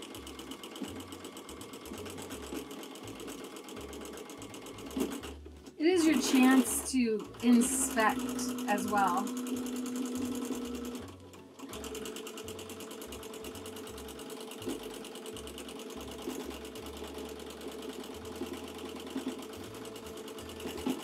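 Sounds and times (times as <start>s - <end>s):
sewing machine stitching: 0.0s - 21.0s.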